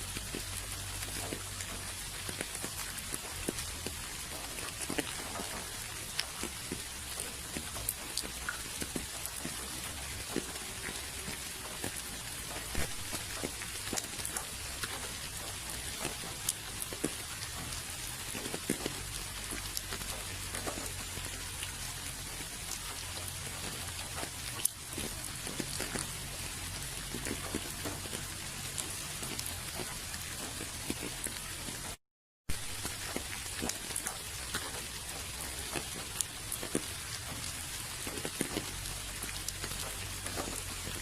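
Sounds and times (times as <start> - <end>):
rain falling: 0.0 - 41.0
raindrops ticking on a surface: 0.0 - 41.0.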